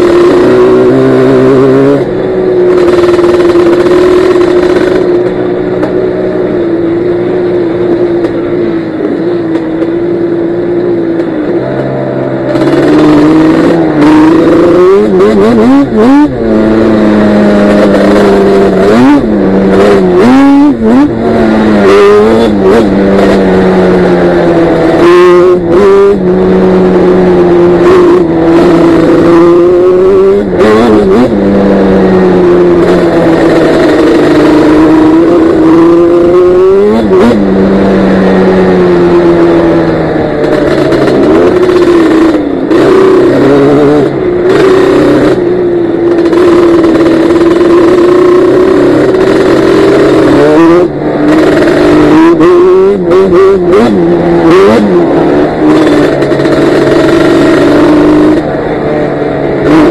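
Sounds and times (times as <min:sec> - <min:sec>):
two-stroke quad engine revving: 0:00.0 - 0:59.9.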